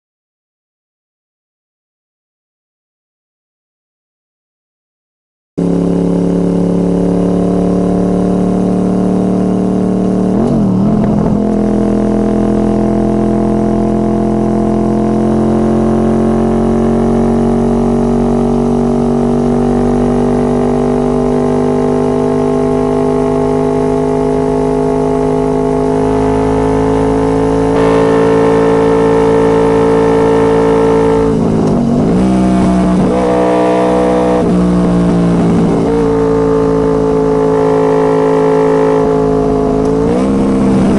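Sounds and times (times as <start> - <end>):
motorcycle engine running: 5.6 - 40.9.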